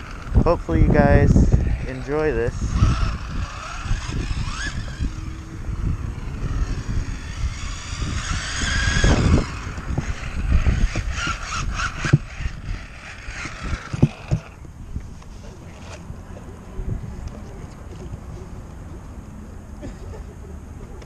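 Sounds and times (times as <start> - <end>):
rc car motor whine: 0.0 - 17.4.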